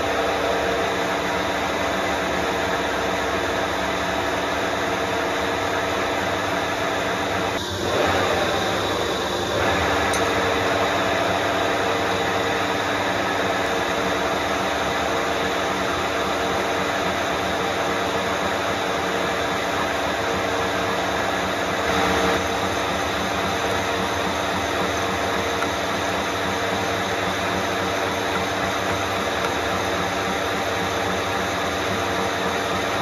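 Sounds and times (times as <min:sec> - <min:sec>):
lathe running: 0:00.0 - 0:33.0.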